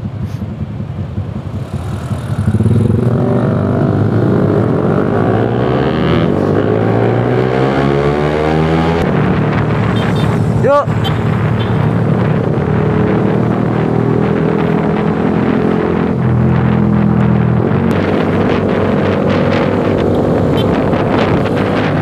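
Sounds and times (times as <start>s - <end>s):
motorcycle engine idling and accelerating: 0.0s - 22.0s.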